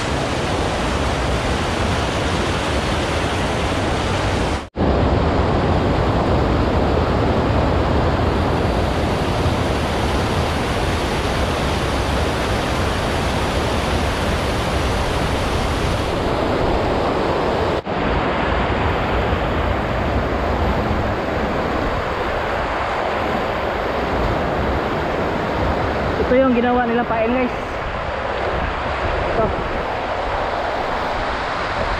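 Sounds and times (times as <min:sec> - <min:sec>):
water rushing over concrete spillway: 0:00.0 - 0:31.9.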